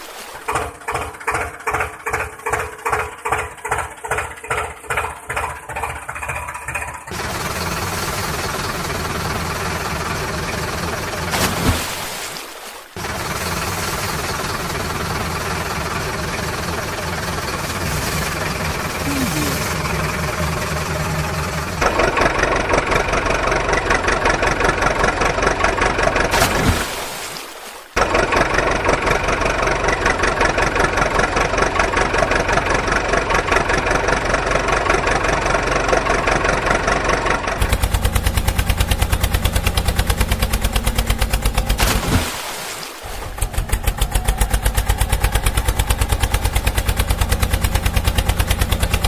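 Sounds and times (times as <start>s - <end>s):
engine idling: 0.4s - 11.4s, 12.9s - 26.4s, 28.0s - 42.0s, 43.1s - 49.0s.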